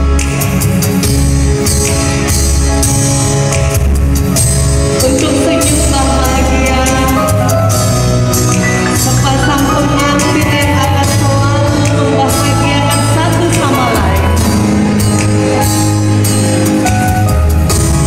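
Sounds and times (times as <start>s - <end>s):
song with singing and beat: 0.0s - 18.0s.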